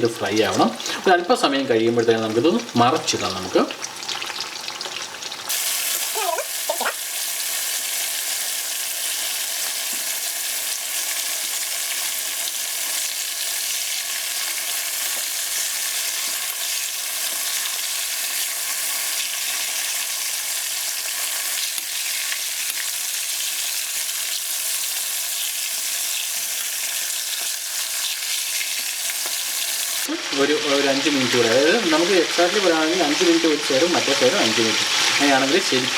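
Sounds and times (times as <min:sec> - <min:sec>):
bananas sizzling in hot oil: 0:00.0 - 0:35.9.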